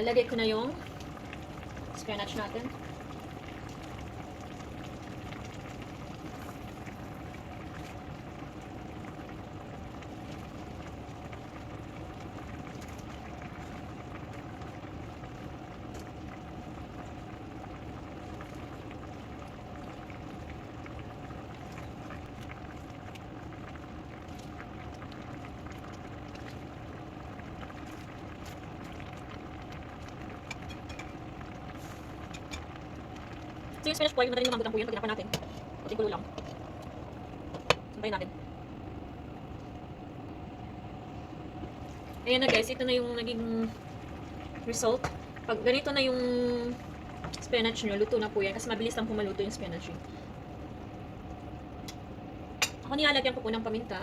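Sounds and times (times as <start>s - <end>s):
soup simmering and bubbling: 0.0s - 54.0s.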